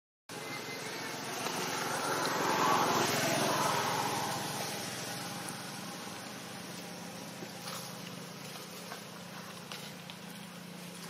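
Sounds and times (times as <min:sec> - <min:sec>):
vehicle engine passing by: 0:00.3 - 0:11.0.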